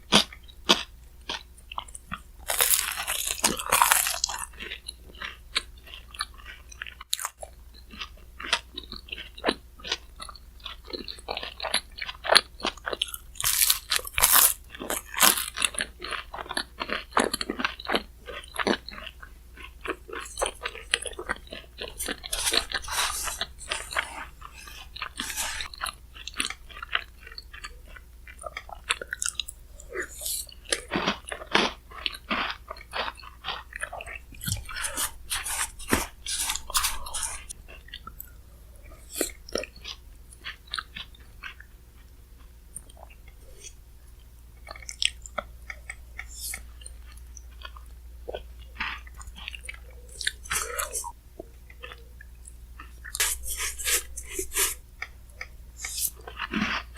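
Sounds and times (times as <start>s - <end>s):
chewing and crunching ice: 0.0s - 56.9s.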